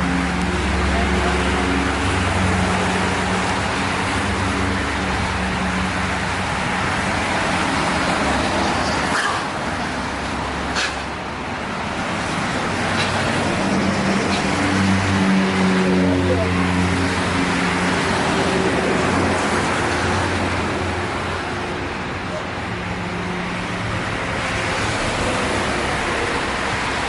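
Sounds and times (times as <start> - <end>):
road traffic going by: 0.0 - 27.0.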